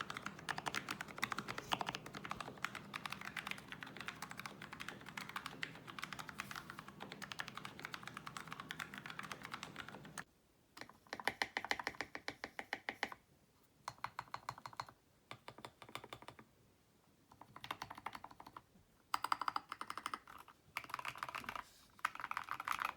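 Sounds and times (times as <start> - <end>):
mechanical keyboard typing: 0.0 - 13.2, 17.4 - 22.9.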